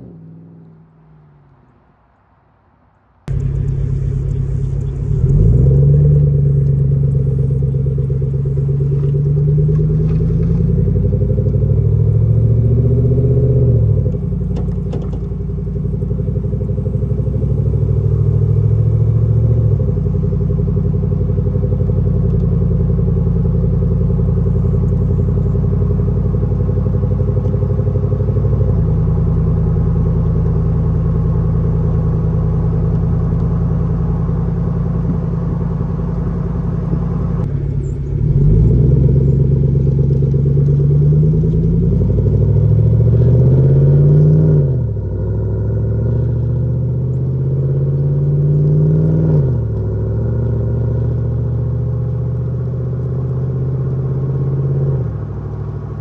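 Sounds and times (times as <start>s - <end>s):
pickup truck exhaust engine note: 3.3s - 55.2s.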